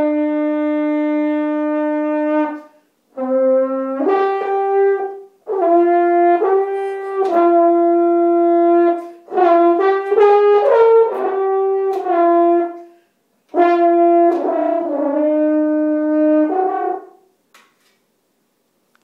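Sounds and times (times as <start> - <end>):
french horn playing: 0.0 - 17.4.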